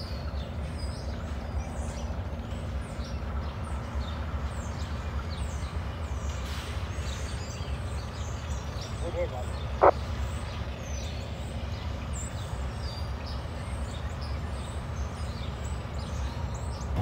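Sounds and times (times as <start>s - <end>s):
diesel locomotive engines rumbling: 0.0s - 17.0s
small birds chirping: 0.0s - 17.0s.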